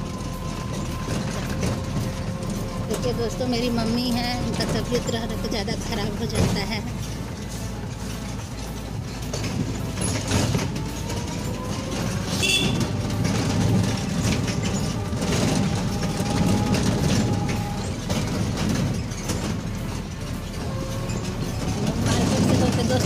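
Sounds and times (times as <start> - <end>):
metal frame rattling and knocking: 0.0 - 23.0
rickshaw ride rumble: 0.0 - 23.0.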